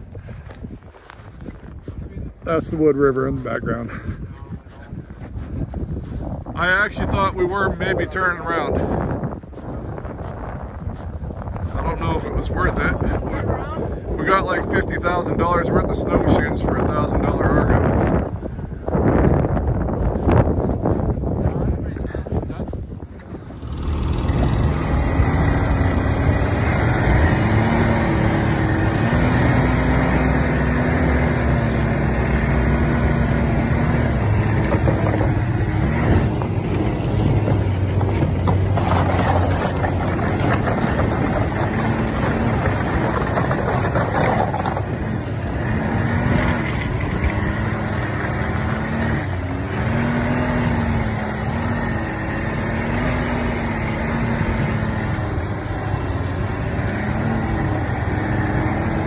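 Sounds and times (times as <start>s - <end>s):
snowmobile engine running: 0.0s - 59.0s
rushing ride noise: 2.0s - 59.0s.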